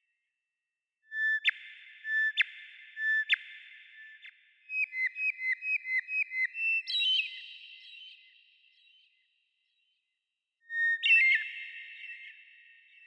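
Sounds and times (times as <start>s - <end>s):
songbird singing whistled notes: 1.1s - 10.0s, 10.6s - 13.0s.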